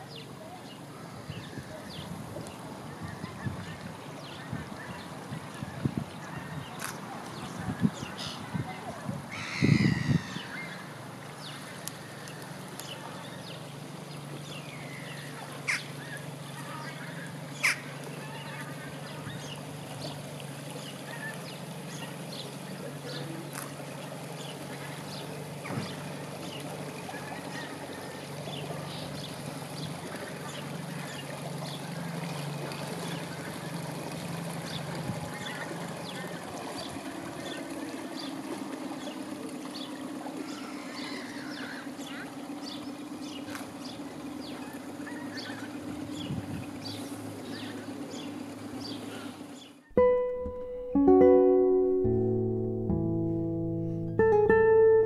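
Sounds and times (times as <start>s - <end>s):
distant engine hum: 0.0s - 55.0s.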